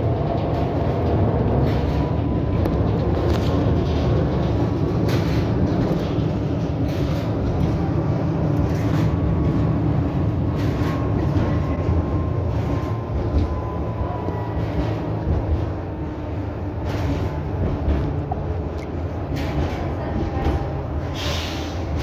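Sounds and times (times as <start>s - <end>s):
track knocks and clacks: 0.0s - 22.0s
tram wheels rumbling on rails: 0.0s - 22.0s.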